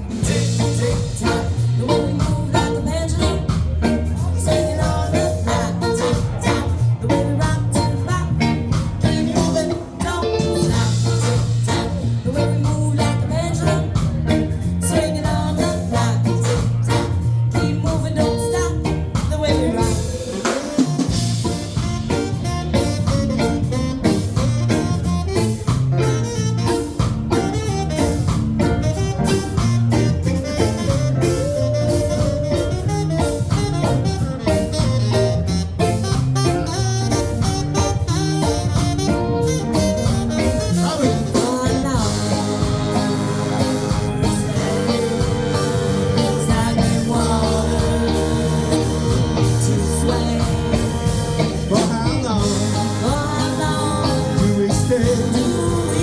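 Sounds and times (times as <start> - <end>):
live band playing: 0.0 - 56.0
steady bass line: 0.0 - 56.0.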